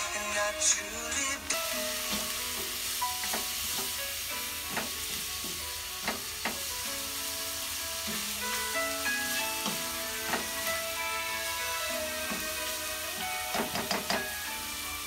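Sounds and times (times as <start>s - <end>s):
meat and onion sizzling: 0.0s - 15.0s.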